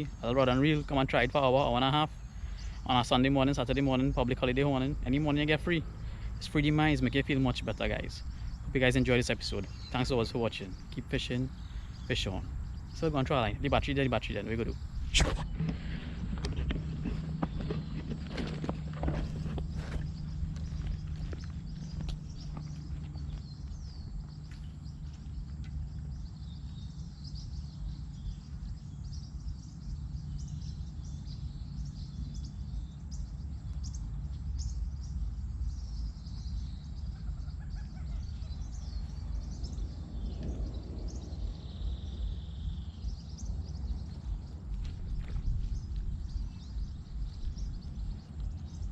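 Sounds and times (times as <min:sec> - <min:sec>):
steady low rumble: 0:00.0 - 0:48.9
wild birds chirping and calling: 0:00.0 - 0:48.9.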